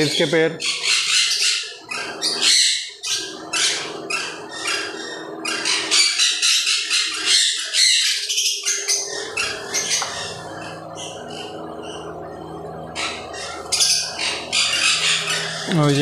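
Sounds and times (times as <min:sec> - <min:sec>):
parrots chirping and squawking: 0:00.0 - 0:16.0
steady low hum: 0:00.0 - 0:16.0.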